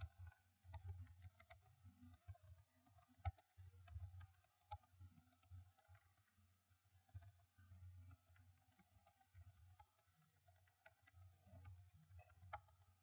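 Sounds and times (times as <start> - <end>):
faint irregular clicks: 0.0 - 13.0.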